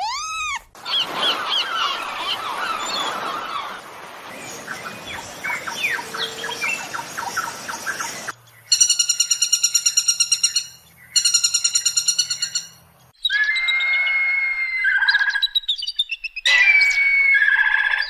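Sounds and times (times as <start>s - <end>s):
rapid pulsed bird trills: 0.8s - 16.8s
whistled bird song: 0.8s - 18.0s.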